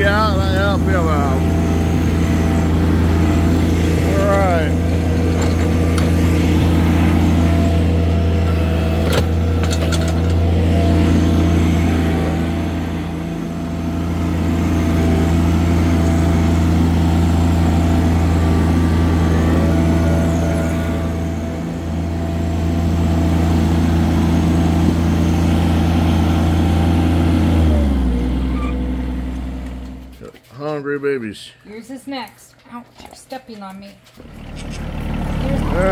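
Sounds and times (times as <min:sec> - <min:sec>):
tractor engine running: 0:00.0 - 0:30.3, 0:33.3 - 0:35.9.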